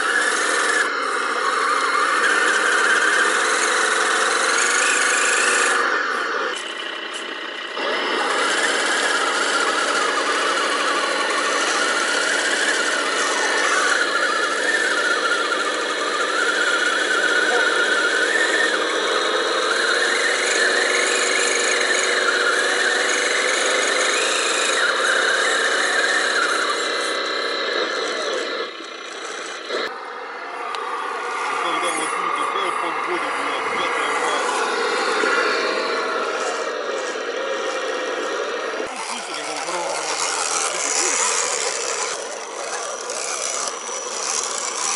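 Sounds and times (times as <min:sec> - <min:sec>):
toy truck electric motor whining: 0:00.0 - 0:44.9.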